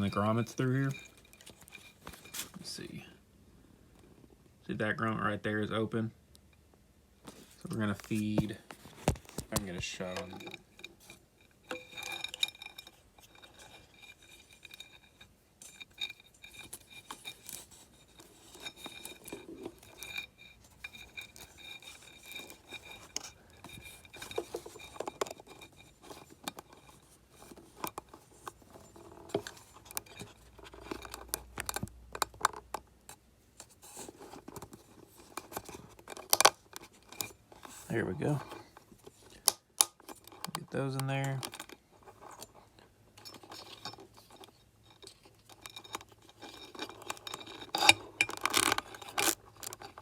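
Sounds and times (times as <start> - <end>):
plastic parts clicking and scraping: 0.0 - 2.9, 7.2 - 50.0.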